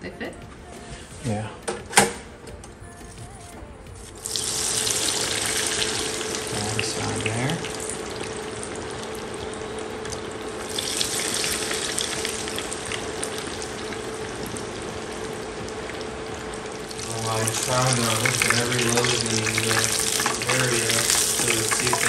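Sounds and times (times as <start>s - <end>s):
fish frying in hot oil: 4.2s - 22.0s.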